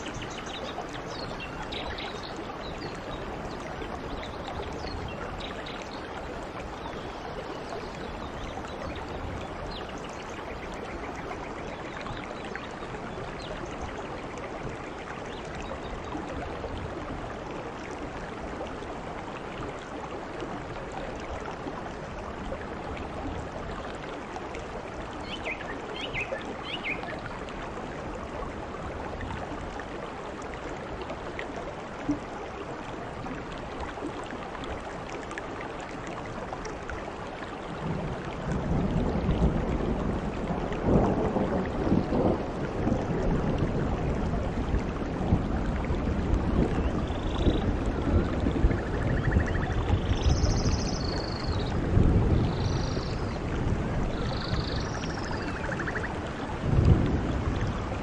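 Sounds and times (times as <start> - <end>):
heavy rain on foliage: 0.0 - 58.0.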